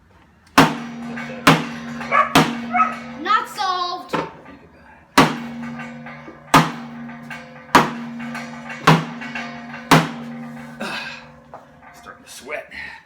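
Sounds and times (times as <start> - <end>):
steel tank ringing: 0.5 - 13.0
hammer blows on steel tank: 0.6 - 12.6.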